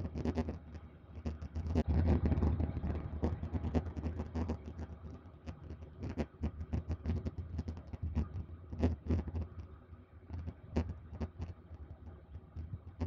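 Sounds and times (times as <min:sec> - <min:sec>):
light aircraft engine drone: 0:00.0 - 0:13.0.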